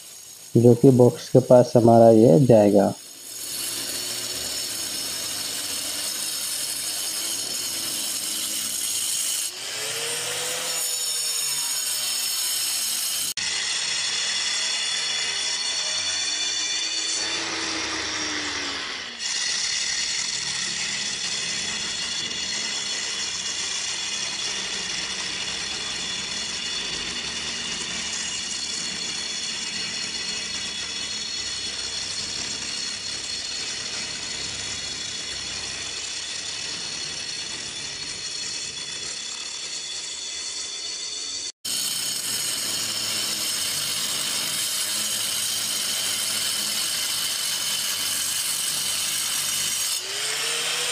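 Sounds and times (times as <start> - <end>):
angle grinder cutting brick: 0.0 - 50.9.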